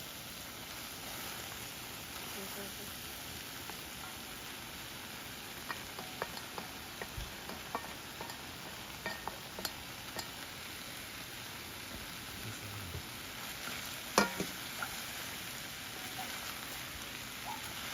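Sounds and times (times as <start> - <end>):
food sizzling in a pan: 0.0 - 17.9.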